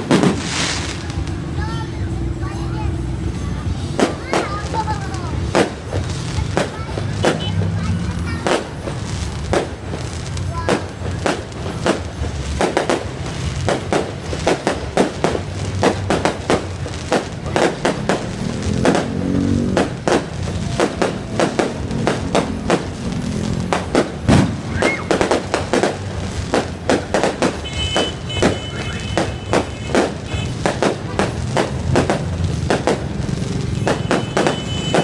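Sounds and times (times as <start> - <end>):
fireworks exploding: 0.0 - 35.0.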